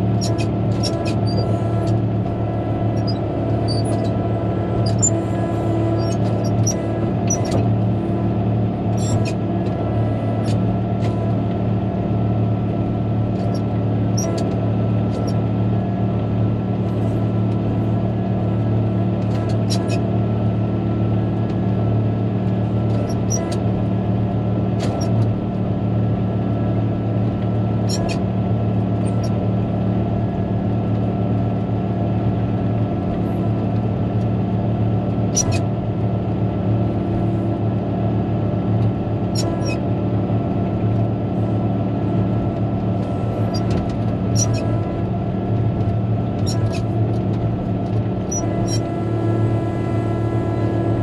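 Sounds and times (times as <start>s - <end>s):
diesel engine running steadily: 0.0s - 51.0s.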